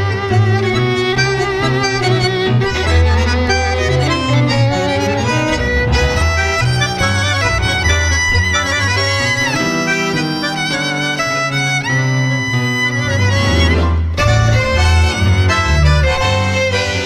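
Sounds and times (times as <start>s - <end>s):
bandoneon melody: 0.0s - 17.0s
piano: 0.0s - 17.0s
plucked double bass: 0.0s - 17.0s
violins with vibrato: 0.0s - 17.0s.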